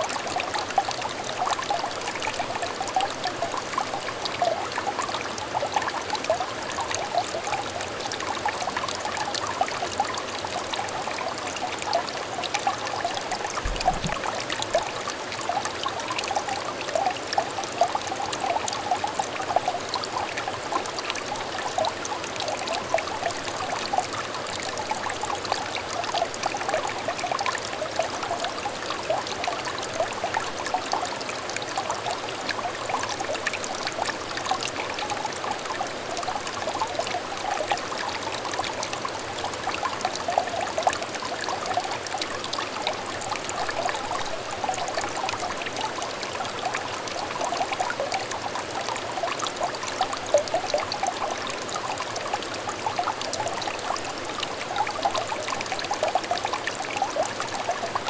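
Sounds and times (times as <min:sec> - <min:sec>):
stream trickling and burbling: 0:00.0 - 0:58.0.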